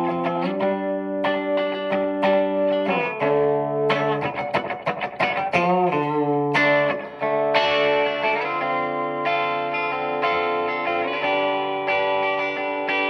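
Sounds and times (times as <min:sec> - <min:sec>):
electric guitar with reverb: 0:00.0 - 0:13.0.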